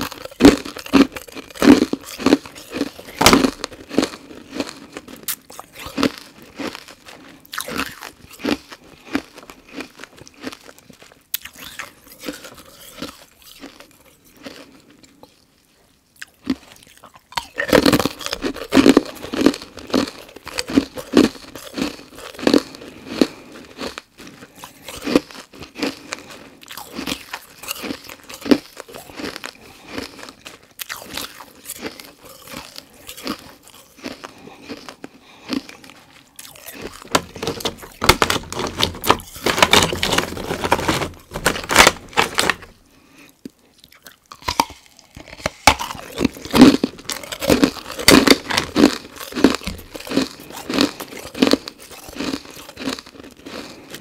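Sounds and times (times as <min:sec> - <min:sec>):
person crunching ice cubes: 0:00.0 - 0:15.4, 0:16.2 - 0:54.0.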